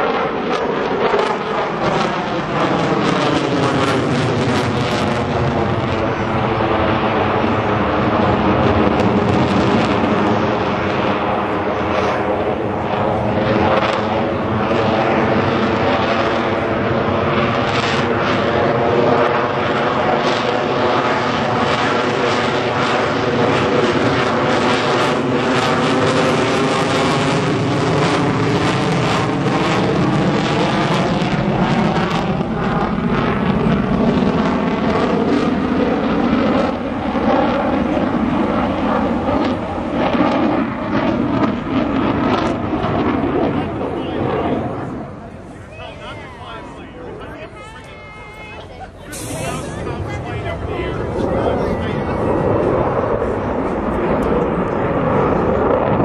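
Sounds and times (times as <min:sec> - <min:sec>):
fighter jet engine roar: 0:00.0 - 0:56.0.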